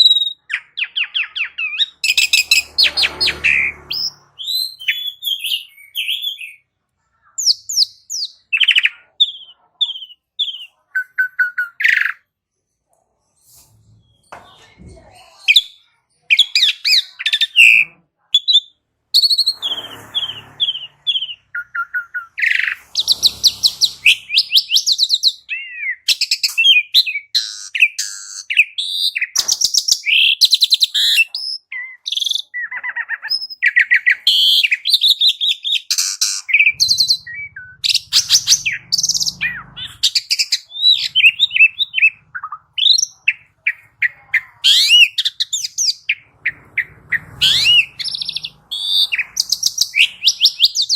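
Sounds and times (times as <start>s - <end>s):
starling singing: 0.0s - 6.8s, 7.4s - 12.2s, 14.0s - 50.9s.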